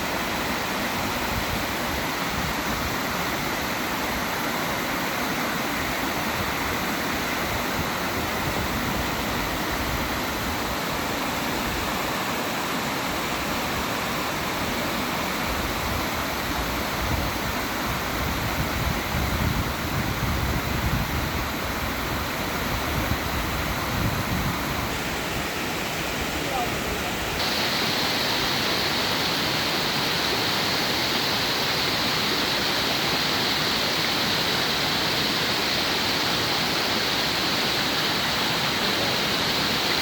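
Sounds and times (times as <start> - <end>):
waterfall roar: 0.0 - 40.0.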